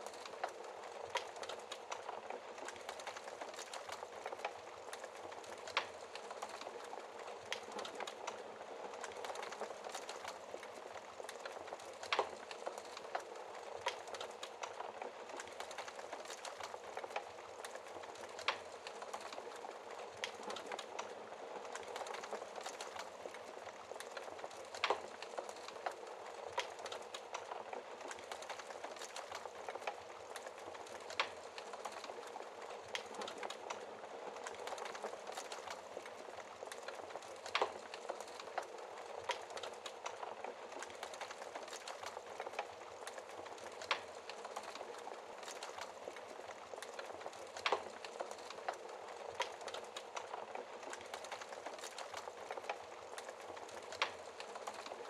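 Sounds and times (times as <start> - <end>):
wood fire hissing and crackling: 0.0 - 55.0.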